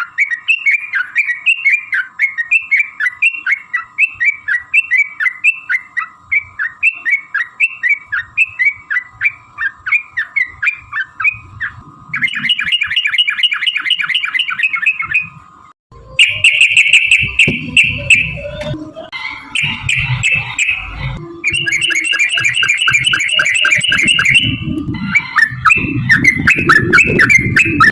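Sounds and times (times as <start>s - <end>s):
bulbuls chirping and trilling: 0.0s - 27.9s.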